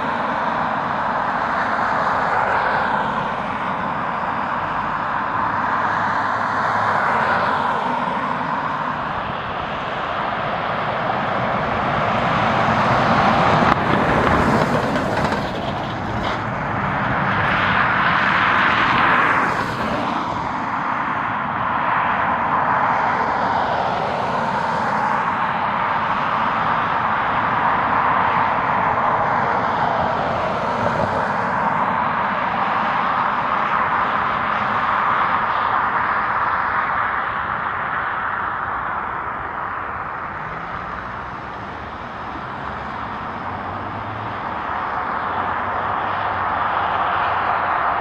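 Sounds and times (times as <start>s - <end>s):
airliner engine roar: 0.0s - 48.0s.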